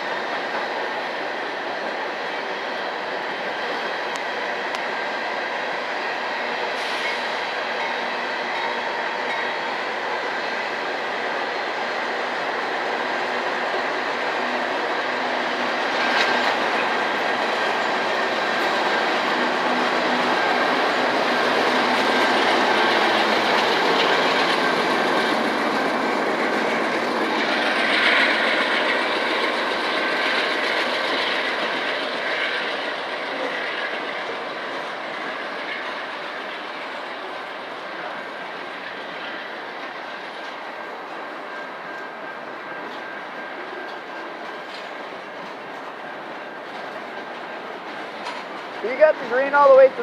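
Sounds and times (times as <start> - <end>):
freight train rumble: 0.0 - 50.0.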